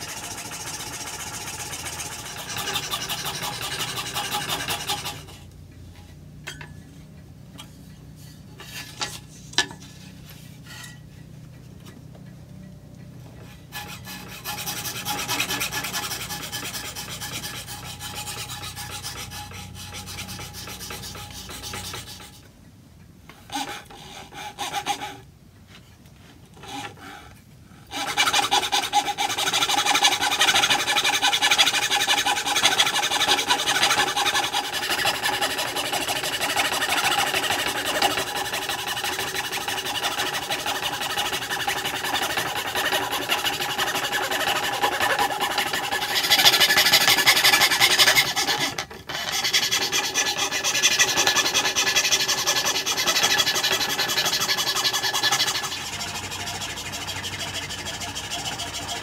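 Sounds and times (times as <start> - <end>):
fretsaw rasping through wood: 0.0 - 5.5, 13.4 - 22.4, 23.4 - 25.2, 26.6 - 27.3, 27.9 - 59.0.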